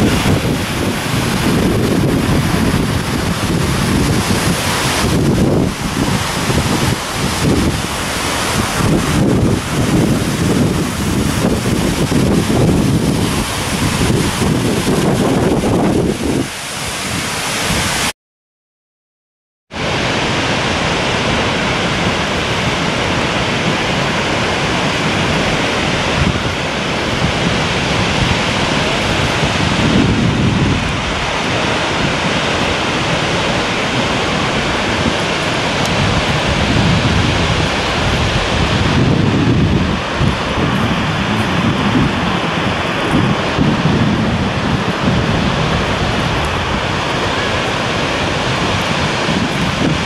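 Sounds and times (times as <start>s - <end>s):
waterfall rushing: 0.0s - 18.1s, 19.7s - 50.0s.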